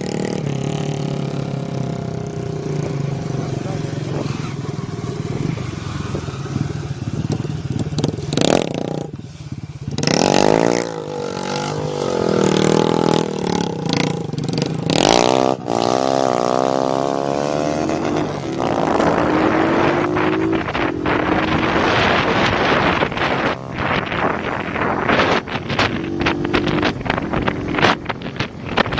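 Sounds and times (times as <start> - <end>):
motorcycle engines revving: 0.0 - 28.9
wind noise: 0.0 - 28.9.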